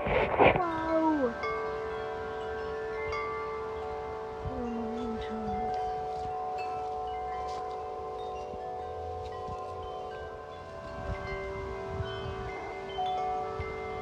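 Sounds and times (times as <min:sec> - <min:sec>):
wind rumble on microphone: 0:00.0 - 0:14.0
wind chimes ringing: 0:00.6 - 0:14.0.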